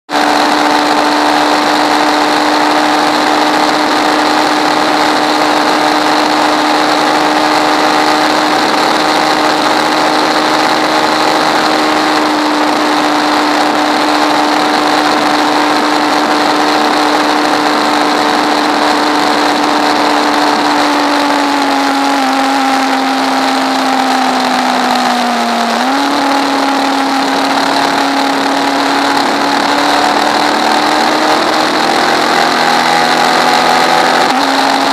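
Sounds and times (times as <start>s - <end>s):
race car engine at high revs: 0.1s - 34.9s.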